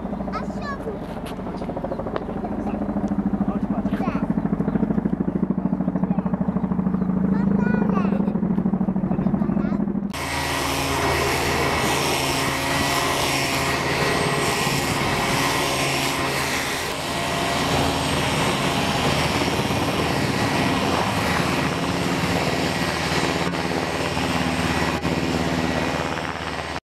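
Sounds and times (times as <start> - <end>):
helicopter rotor beat: 0.0 - 26.8
turbine whine: 0.0 - 26.8.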